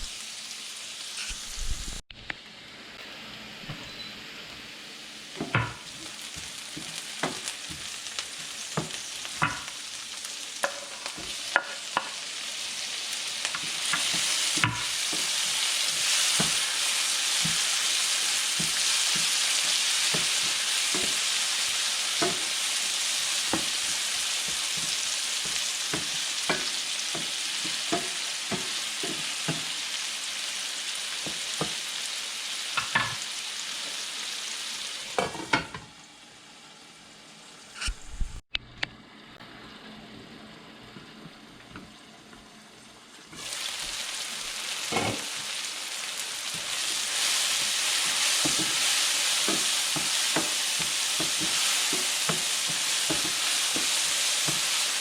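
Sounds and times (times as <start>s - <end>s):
food sizzling in oil: 0.0s - 38.2s, 39.2s - 55.0s.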